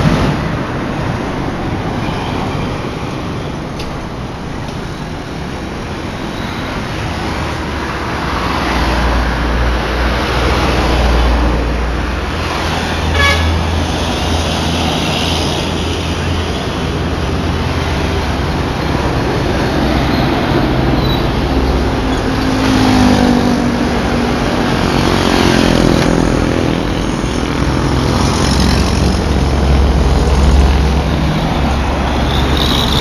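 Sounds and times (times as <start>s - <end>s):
heavy diesel trucks passing: 0.0s - 33.0s
road traffic: 0.0s - 33.0s.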